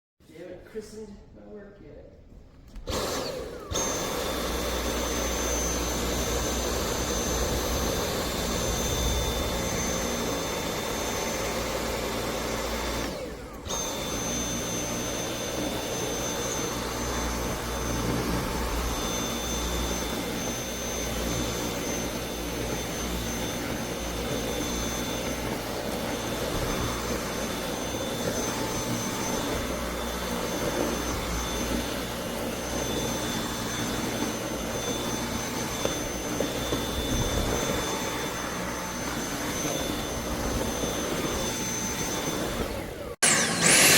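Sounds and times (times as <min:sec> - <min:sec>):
vacuum cleaner motor whine: 0:02.7 - 0:43.9.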